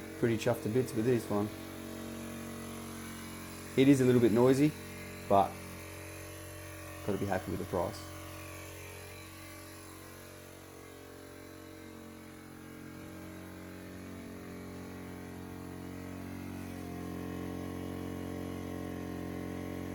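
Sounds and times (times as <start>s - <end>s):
inverter generator running: 0.0s - 19.9s.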